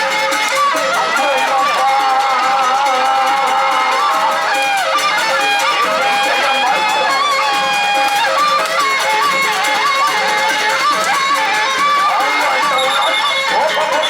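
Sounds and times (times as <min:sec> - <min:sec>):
reedy wind instrument melody: 0:00.0 - 0:14.0
steady percussion: 0:00.0 - 0:14.0.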